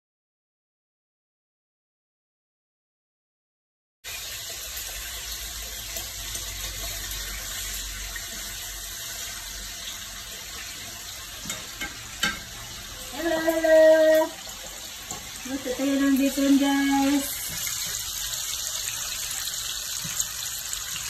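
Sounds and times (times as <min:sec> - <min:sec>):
bacon sizzling in a frying pan: 0:04.0 - 0:21.0.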